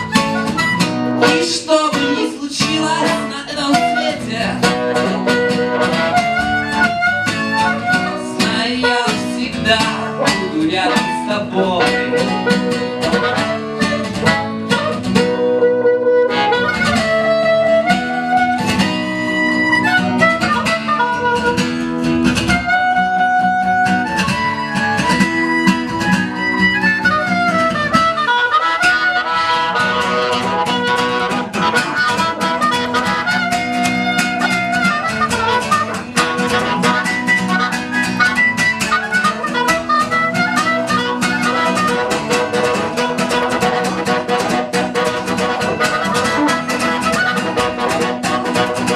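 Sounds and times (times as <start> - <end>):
live band instrumental music: 0.0 - 48.9.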